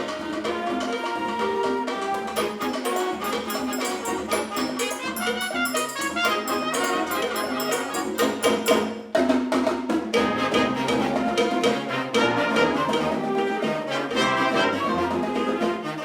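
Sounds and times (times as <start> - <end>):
wind band playing latin music: 0.0 - 16.0.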